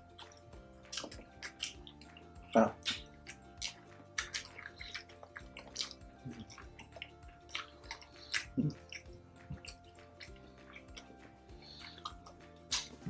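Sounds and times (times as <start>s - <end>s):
quiet background music: 0.0s - 13.0s
wet chewing and lip-smacking: 0.0s - 13.0s.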